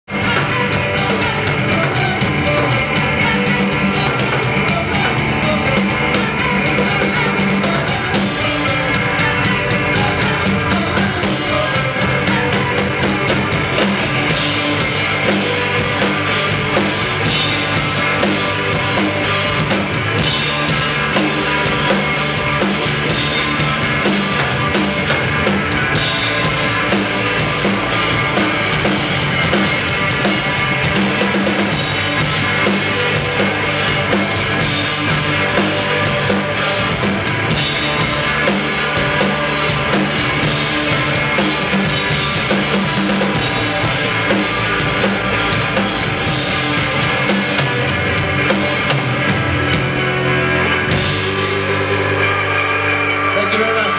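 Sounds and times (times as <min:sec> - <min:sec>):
drum kit with cymbals: 0:00.0 - 0:53.9
electric bass: 0:00.0 - 0:53.9
electric guitar: 0:00.0 - 0:53.9.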